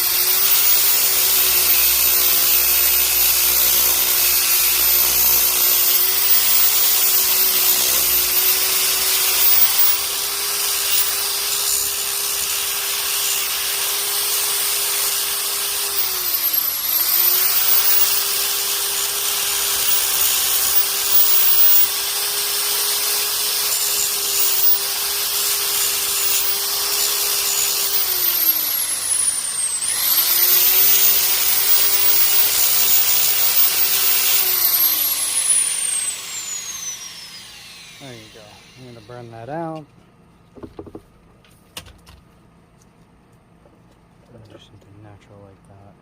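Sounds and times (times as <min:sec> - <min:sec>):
electric power sander grinding: 0:00.0 - 0:39.8.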